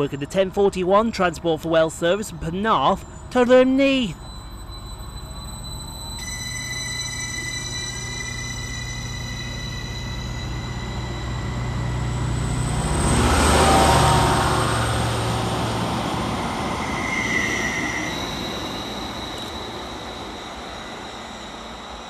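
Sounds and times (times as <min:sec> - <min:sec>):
high steady whine: 0:00.0 - 0:22.0
train engine hum: 0:00.0 - 0:22.0.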